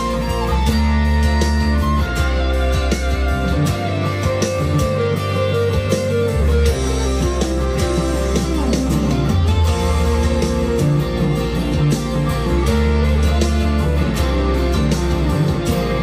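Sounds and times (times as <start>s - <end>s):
electric guitar through amp: 0.0s - 16.0s.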